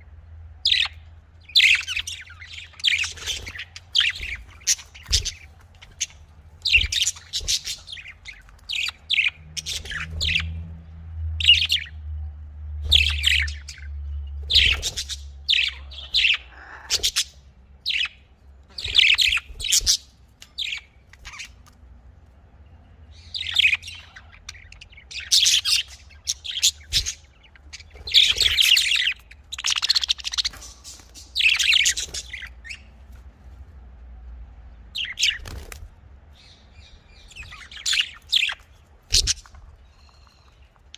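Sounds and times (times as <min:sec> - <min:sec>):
faint low hum: 0:00.0 - 0:40.9
parrots chirping and chattering: 0:00.0 - 0:40.9.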